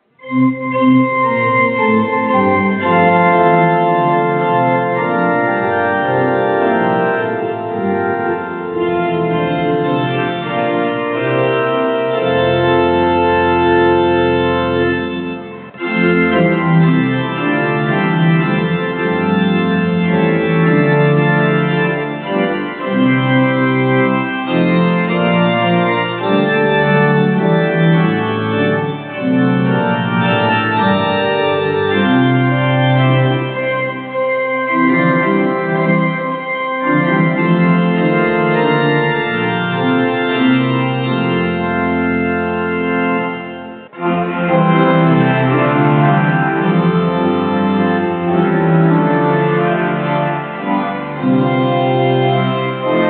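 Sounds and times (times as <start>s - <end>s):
organ chords: 0.0s - 53.0s.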